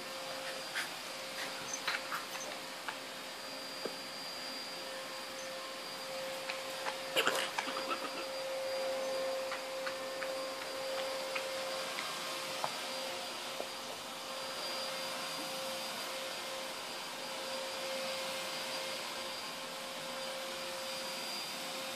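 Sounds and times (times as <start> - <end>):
appliance machine drone with whine: 0.0 - 21.9.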